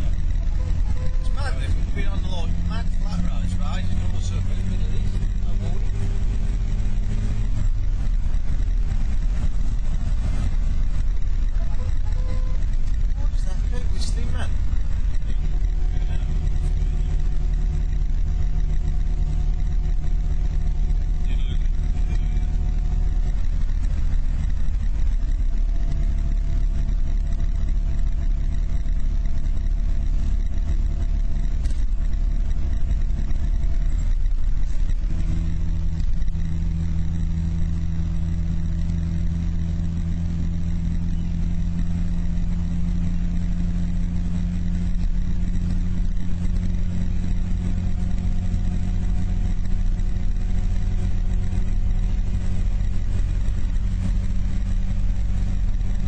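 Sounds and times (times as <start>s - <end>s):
car engine running: 0.0s - 56.0s
road noise: 0.0s - 56.0s.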